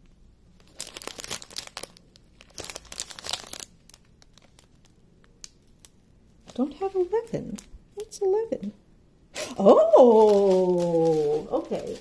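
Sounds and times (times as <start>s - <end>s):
plastic bags crinkling: 0.5s - 7.7s, 9.3s - 12.0s.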